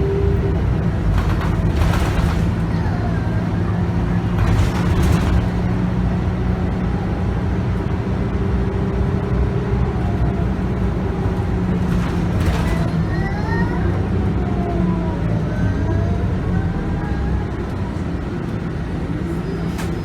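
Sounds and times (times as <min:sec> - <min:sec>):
bus diesel engine hum: 0:00.0 - 0:20.0
faint transmission whine: 0:00.0 - 0:20.0.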